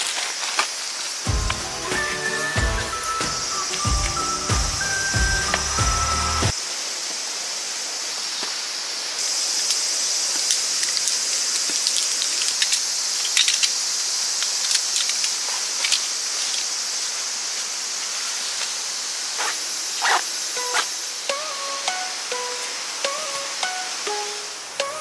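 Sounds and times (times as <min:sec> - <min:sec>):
rain hiss: 0:00.0 - 0:25.0.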